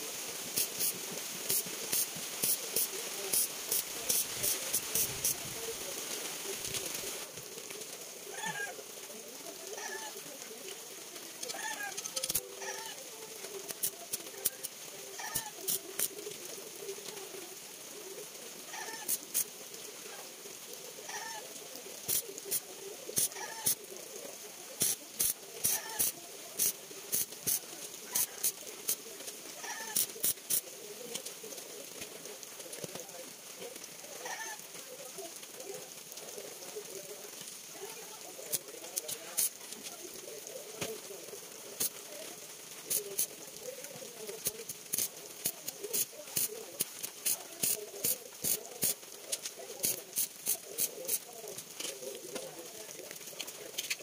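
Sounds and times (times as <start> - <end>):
welding arc crackling and hissing: 0.0 - 54.0.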